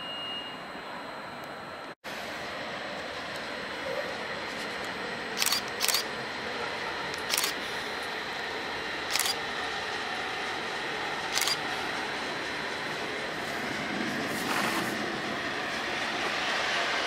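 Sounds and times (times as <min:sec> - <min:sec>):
train rushing: 0:02.1 - 0:17.0.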